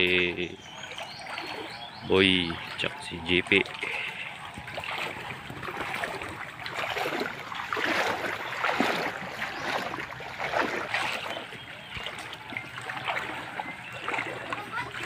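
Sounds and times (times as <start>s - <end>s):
people wading through water: 0.0s - 15.0s.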